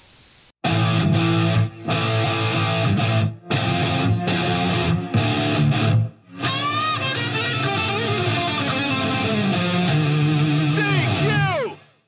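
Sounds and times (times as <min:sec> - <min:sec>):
background music: 0:00.7 - 0:11.8.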